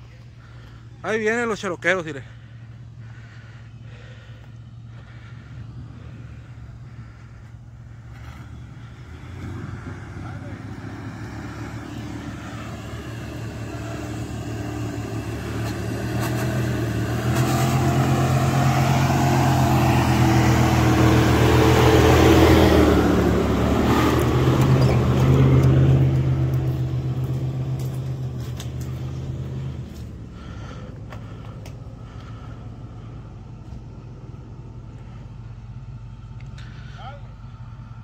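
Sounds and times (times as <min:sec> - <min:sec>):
car engine driving by: 0:00.0 - 0:38.0.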